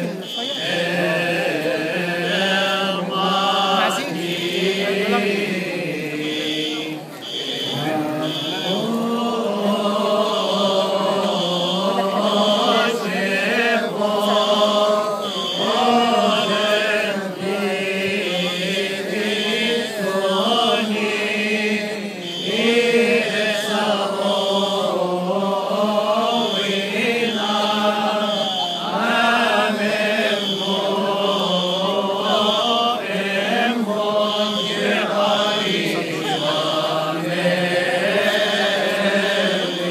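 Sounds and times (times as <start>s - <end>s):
many voices chanting a hymn: 0.0s - 39.9s.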